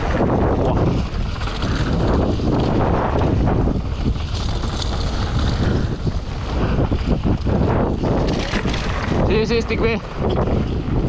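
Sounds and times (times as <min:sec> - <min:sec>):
bike tyres crunching on dirt: 0:00.0 - 0:11.0
wind buffeting microphone: 0:00.0 - 0:11.0.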